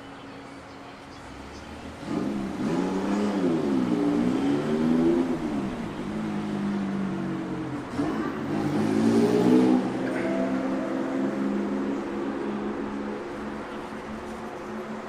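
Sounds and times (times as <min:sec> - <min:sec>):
vehicle engine revving: 0:01.7 - 0:15.0.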